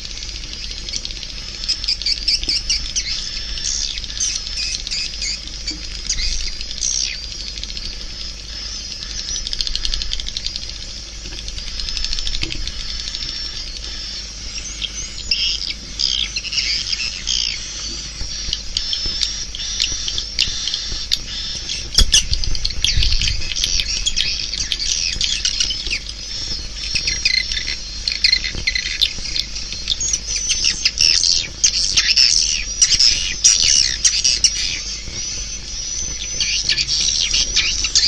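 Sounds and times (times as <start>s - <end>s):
swiftlets chirping and twittering: 0.0s - 38.0s.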